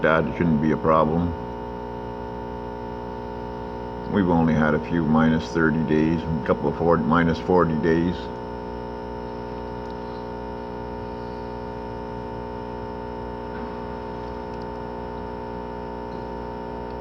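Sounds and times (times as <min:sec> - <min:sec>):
high whine: 0:00.0 - 0:17.0
steady hum: 0:00.0 - 0:17.0.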